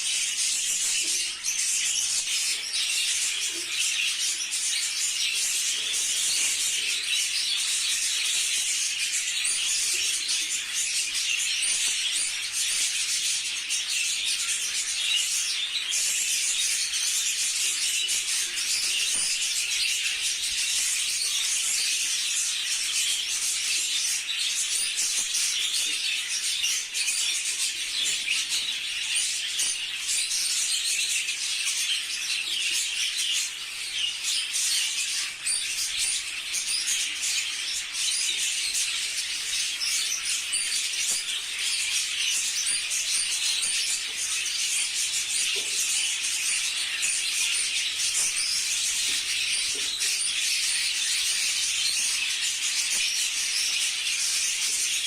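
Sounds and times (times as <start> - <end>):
budgerigars chattering: 0.2 - 55.0.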